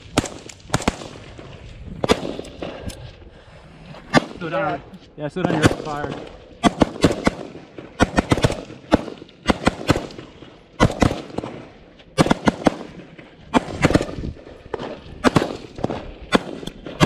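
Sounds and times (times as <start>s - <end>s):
semi-automatic rifle shots: 0.0s - 3.0s, 4.1s - 4.7s, 5.4s - 17.0s.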